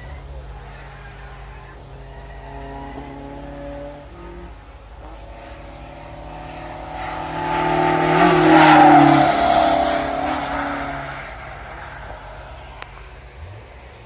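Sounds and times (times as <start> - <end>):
motor vehicle passing by: 2.2 - 14.0.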